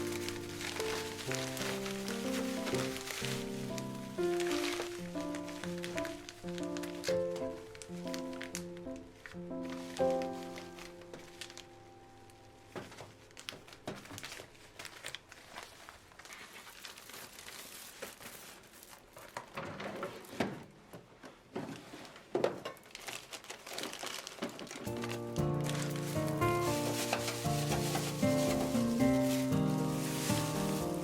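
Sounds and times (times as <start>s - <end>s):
packaging crinkling and rustling: 0.0s - 20.6s, 21.6s - 31.0s.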